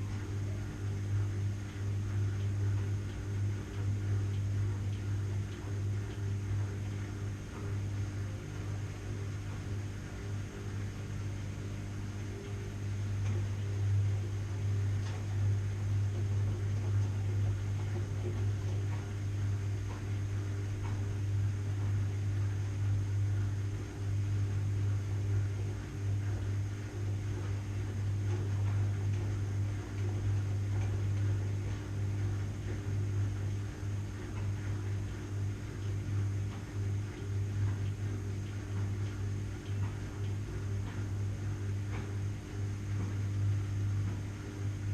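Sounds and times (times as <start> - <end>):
washing machine running: 0.0 - 44.9.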